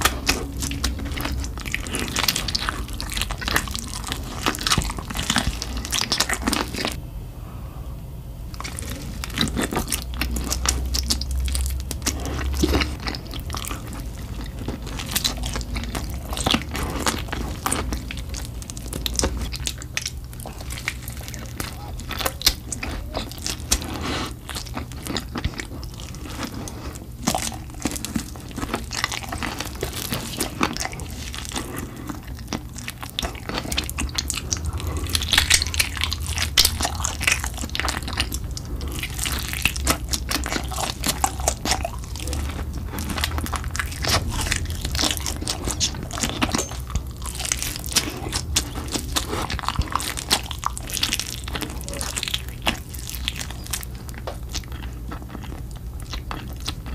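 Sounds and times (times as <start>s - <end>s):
crunching and chewing fried chicken: 0.0s - 7.0s, 8.4s - 56.9s.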